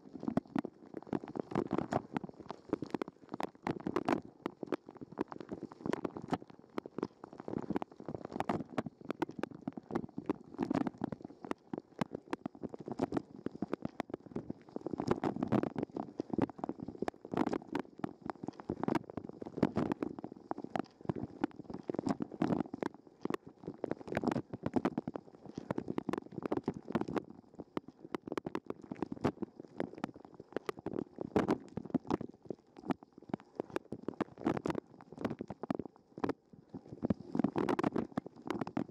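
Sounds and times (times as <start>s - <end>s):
muffled churning gurgle: 0.0s - 38.9s.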